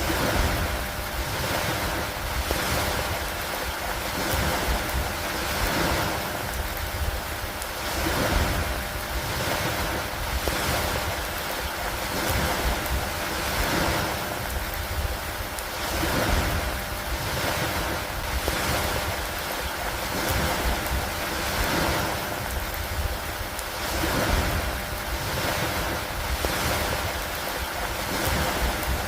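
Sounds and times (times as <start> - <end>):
lake water washing: 0.0 - 29.0
rain: 0.0 - 29.0.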